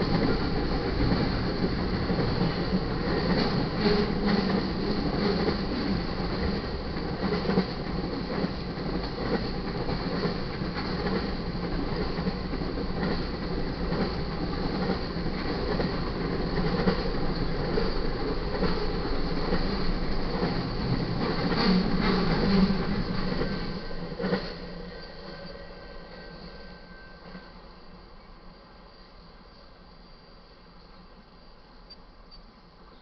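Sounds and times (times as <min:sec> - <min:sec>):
freight train rumbling past: 0:00.0 - 0:29.2.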